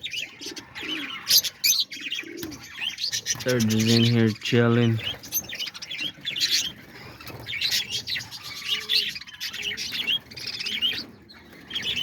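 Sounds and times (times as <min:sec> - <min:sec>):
parakeets chirping: 0:00.0 - 0:12.0.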